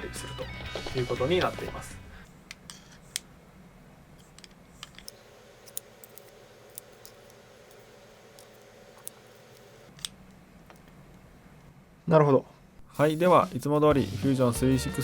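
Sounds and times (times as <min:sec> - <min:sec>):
faint steady hum: 0:01.7 - 0:13.8.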